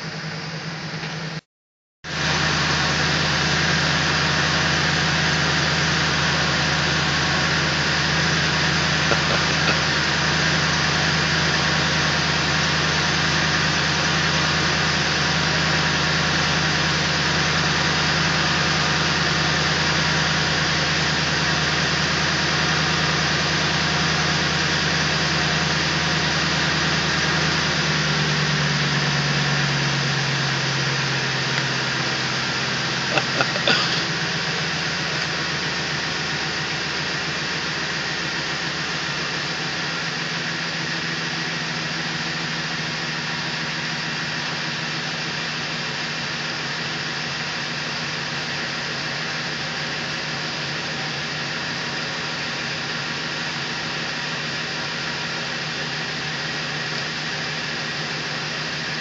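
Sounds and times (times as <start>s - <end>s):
pickup truck engine idling: 0.0s - 1.4s, 2.0s - 59.0s
noisy wash: 2.1s - 59.0s.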